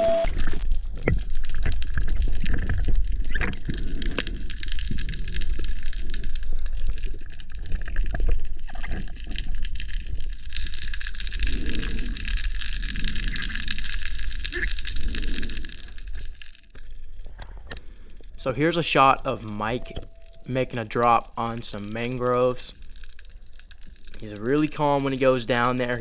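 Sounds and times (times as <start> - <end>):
muffled water gurgling: 0.0 - 26.0.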